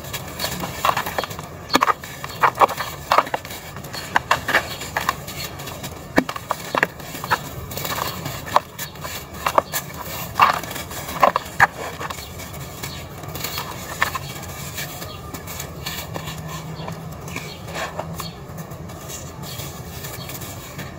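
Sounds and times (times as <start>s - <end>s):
dirt crumbling by hand: 0.0s - 20.9s.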